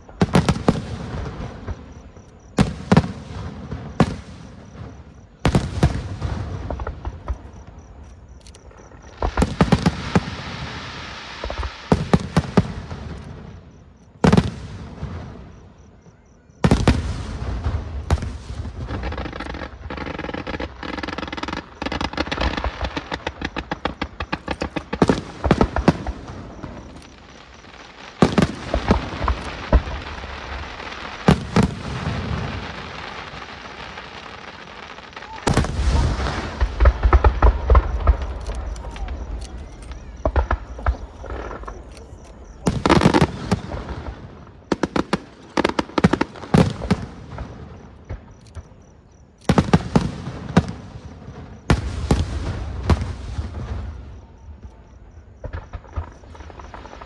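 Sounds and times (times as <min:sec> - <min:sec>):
firework shells bursting with bangs: 0:00.0 - 0:15.6, 0:16.6 - 0:48.9
dense rapid firework crackling: 0:00.0 - 0:15.8, 0:16.6 - 0:48.8, 0:49.5 - 0:57.0.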